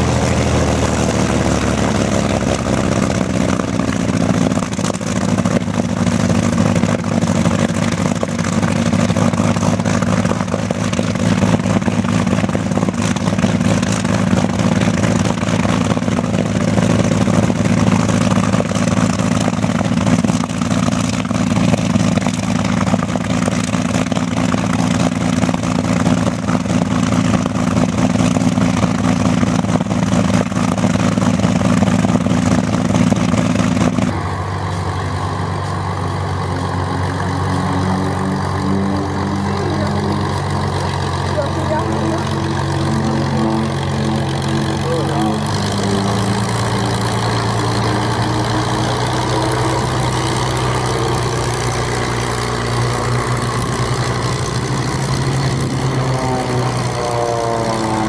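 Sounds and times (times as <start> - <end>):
aero engine running: 0.0 - 58.0
quieter aircraft engine running: 0.0 - 58.0.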